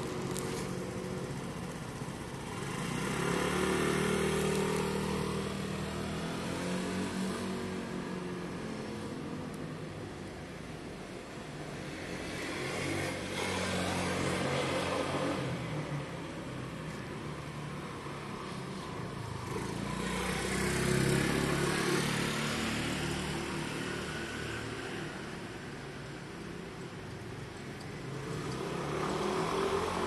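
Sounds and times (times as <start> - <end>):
vehicles passing by: 0.0 - 30.0.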